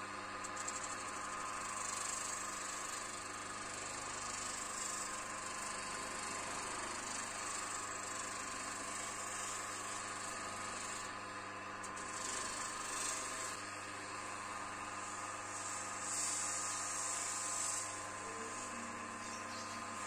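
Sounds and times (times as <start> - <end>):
bench grinder motor humming: 0.0 - 20.0.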